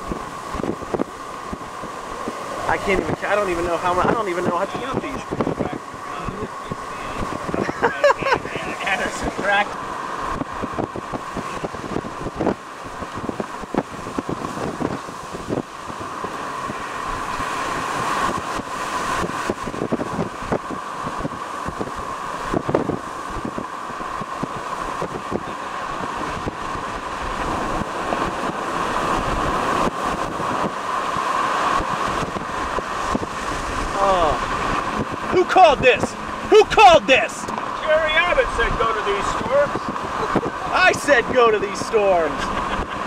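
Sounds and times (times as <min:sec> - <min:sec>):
low thumps of wind gusts: 0:00.0 - 0:43.0
wind rushing over microphone: 0:00.0 - 0:43.0.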